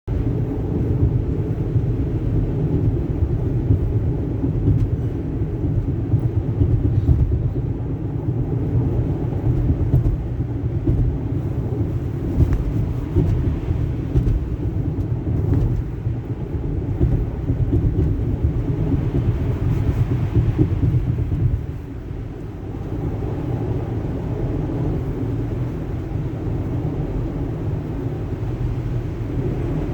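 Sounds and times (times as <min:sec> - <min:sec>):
car engine rumble: 0:00.1 - 0:29.9
road noise: 0:00.1 - 0:29.9.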